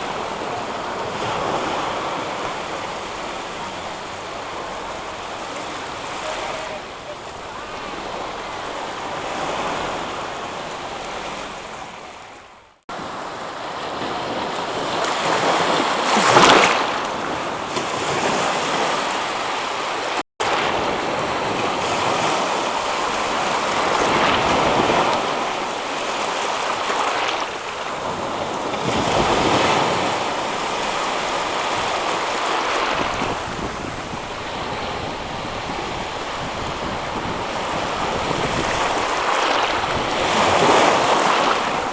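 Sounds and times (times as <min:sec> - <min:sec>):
ocean waves breaking: 0:00.0 - 0:41.9.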